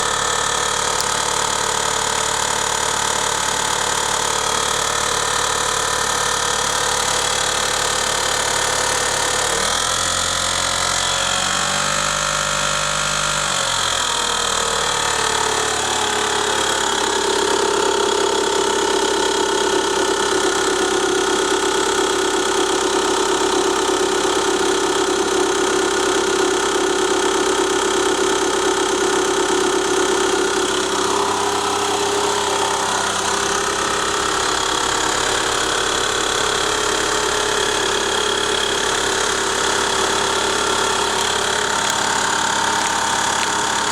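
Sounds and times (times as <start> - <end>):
fast ticking engine knock: 0.0 - 11.6, 14.1 - 43.9
car engine running: 0.0 - 43.9.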